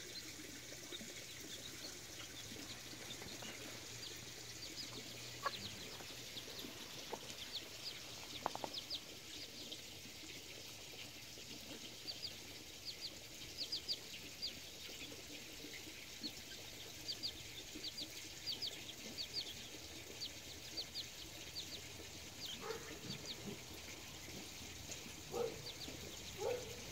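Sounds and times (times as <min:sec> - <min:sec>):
chicks peeping: 0:00.0 - 0:26.9
hen clucking: 0:00.2 - 0:09.9, 0:10.6 - 0:26.9.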